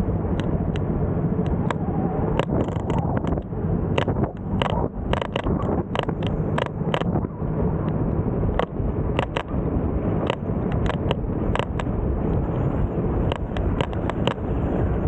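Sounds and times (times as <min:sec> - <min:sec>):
wind and road rumble: 0:00.0 - 0:15.0
sharp clicks: 0:00.3 - 0:09.6, 0:10.2 - 0:12.4, 0:13.3 - 0:14.4.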